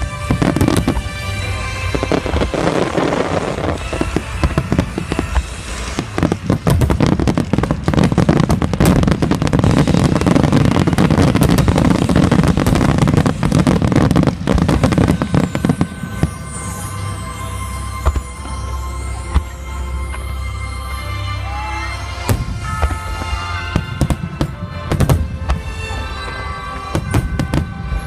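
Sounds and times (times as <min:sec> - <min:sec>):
fireworks bangs and crackles: 0:00.0 - 0:20.3, 0:22.2 - 0:28.0.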